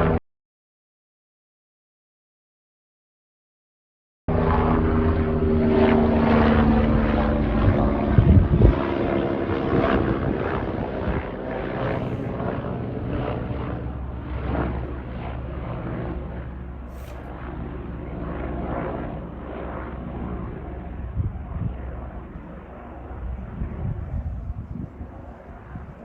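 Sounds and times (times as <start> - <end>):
helicopter rotor chop: 4.3 - 26.0
turbine whine: 4.3 - 26.0.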